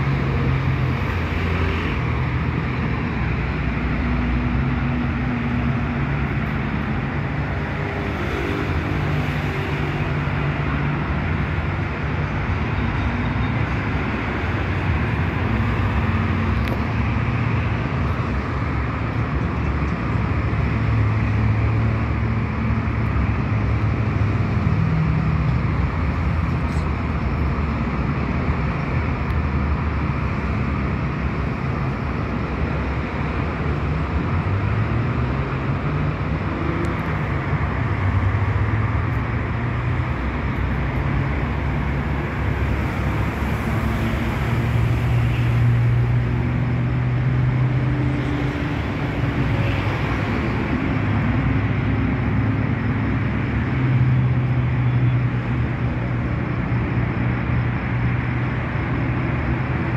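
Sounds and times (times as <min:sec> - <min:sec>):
motor traffic rumble: 0:00.0 - 0:59.9.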